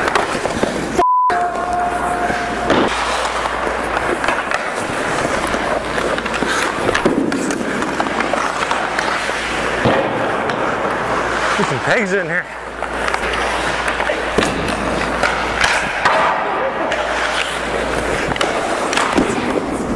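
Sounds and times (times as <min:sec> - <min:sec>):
hockey sticks and pucks clacking: 0:00.0 - 0:19.9
skate blades scraping ice: 0:00.0 - 0:19.9.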